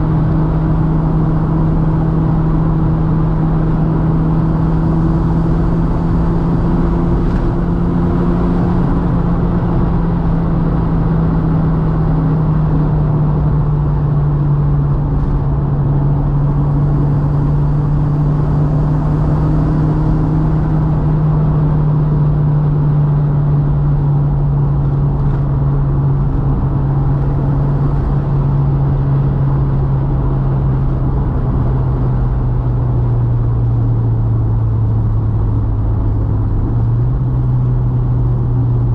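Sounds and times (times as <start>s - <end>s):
tyre and road noise: 0.0s - 38.9s.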